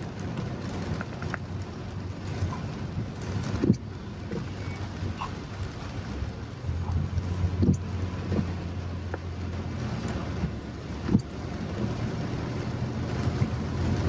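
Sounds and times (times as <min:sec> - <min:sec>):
car rumbling in motion: 0:00.0 - 0:14.0
heavy rain: 0:00.0 - 0:14.0.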